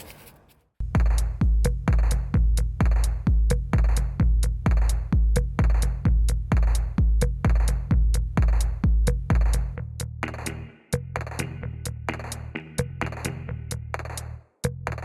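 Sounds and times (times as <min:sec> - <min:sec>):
electronic music with drum machine: 0:00.8 - 0:15.0.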